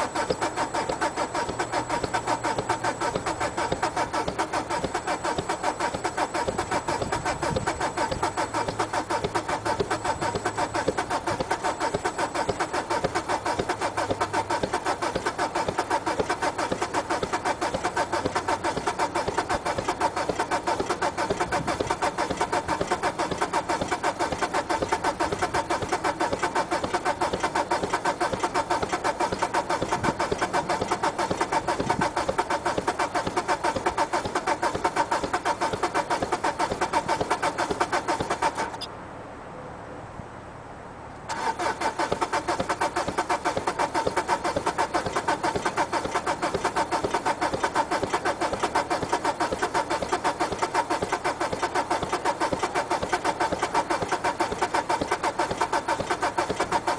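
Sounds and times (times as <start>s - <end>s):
diesel engine idling clatter: 0.0s - 38.9s, 41.2s - 56.9s.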